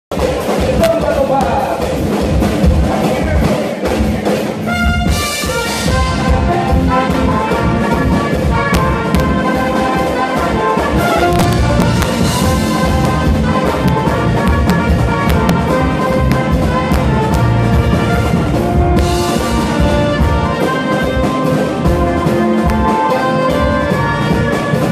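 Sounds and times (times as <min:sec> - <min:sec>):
brass band playing: 0:00.1 - 0:24.9
pounding bass drum: 0:00.1 - 0:24.9.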